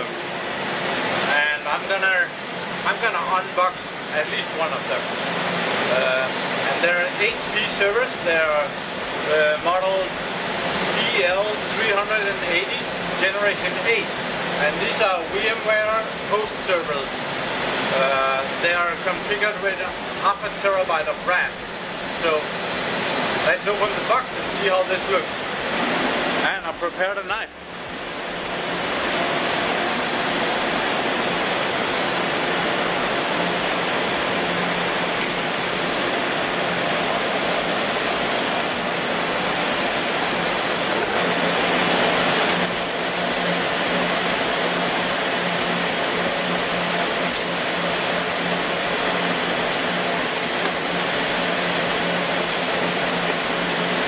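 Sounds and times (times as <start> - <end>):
low steady hum: 0.0 - 54.0
server fans rushing: 0.0 - 54.0.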